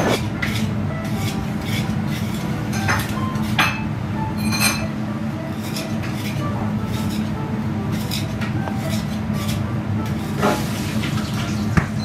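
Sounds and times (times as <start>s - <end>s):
dishes and cutlery clinking: 0.0s - 12.0s
steady background hum: 0.0s - 12.0s.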